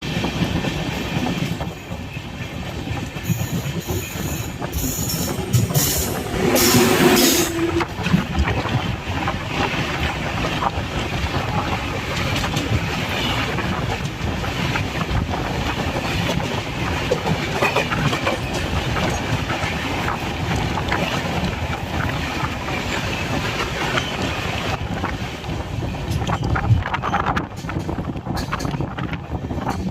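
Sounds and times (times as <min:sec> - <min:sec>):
train coaches rumbling by: 0:00.0 - 0:29.9
wheels clacking over rail joints: 0:00.2 - 0:29.9.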